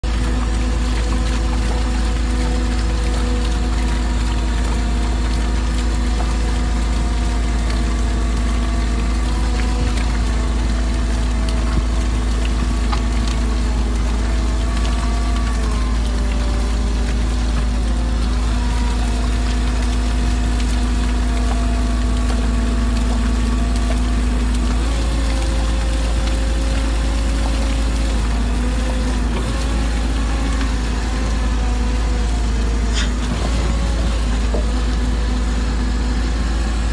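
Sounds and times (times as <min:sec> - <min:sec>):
excavator engine and hydraulics: 0:00.0 - 0:36.9
mixer bucket churning slurry: 0:00.0 - 0:36.9.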